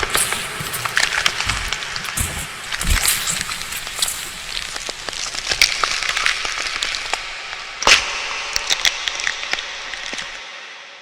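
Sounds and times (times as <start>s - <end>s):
bones cracking and snapping: 0.0s - 10.4s
steady hiss: 0.0s - 10.4s.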